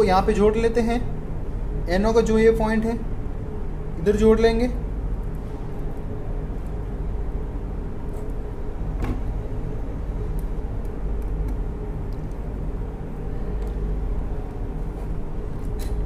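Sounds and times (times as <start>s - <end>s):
low rumble with faint hum: 0.0s - 16.0s.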